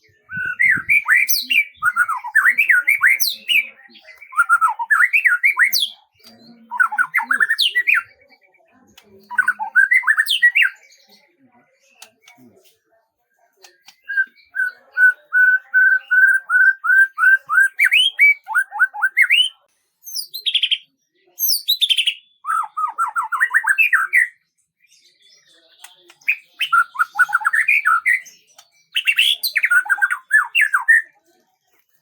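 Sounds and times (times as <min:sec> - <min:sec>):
songbird singing: 0:00.0 - 0:12.8, 0:13.6 - 0:31.1.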